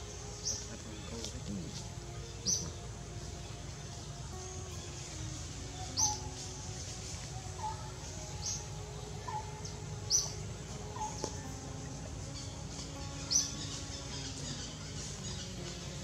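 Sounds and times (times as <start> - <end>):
bird call notes: 0.0 - 16.0
birds chirping: 0.0 - 16.0.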